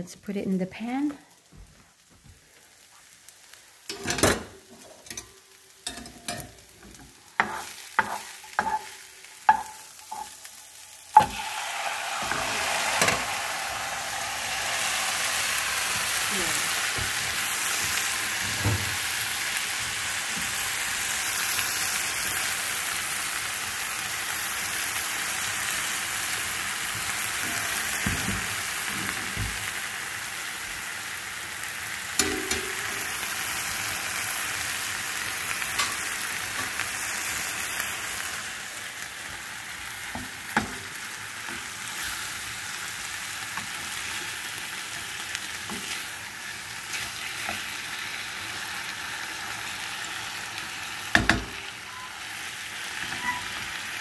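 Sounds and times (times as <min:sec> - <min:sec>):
chicken sizzling in a pan: 0:00.8 - 0:54.0.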